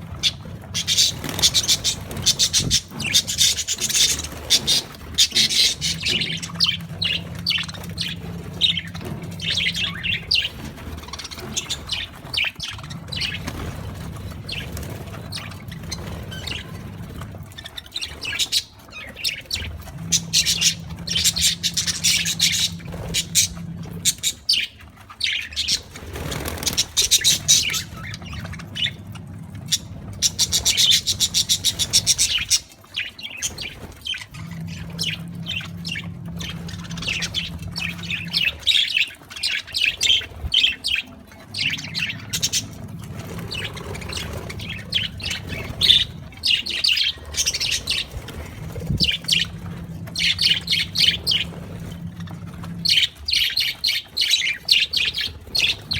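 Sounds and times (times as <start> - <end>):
low hum: 0.0 - 17.6, 19.4 - 25.1, 33.6 - 39.4, 40.1 - 55.9
budgerigars chirping: 0.1 - 52.1, 52.8 - 55.9.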